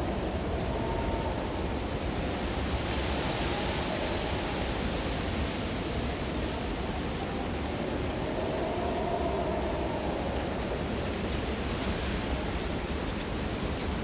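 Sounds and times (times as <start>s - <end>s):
wind blowing with howl: 0.0s - 14.0s.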